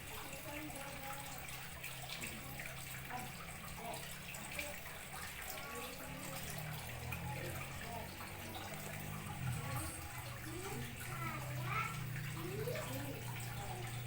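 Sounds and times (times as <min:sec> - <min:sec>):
running water trickling: 0:00.0 - 0:14.0.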